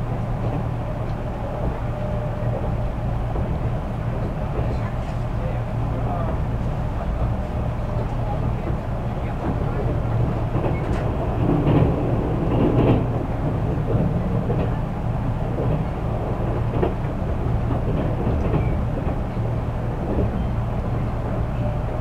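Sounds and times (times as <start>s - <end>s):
train wheels rumbling on rail: 0.0s - 22.0s
rail joint clacks: 0.1s - 22.0s.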